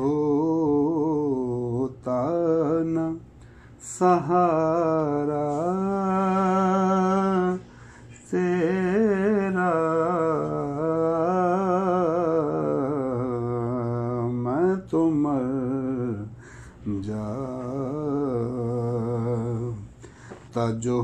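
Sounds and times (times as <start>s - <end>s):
man singing devotional song: 0.0s - 21.0s.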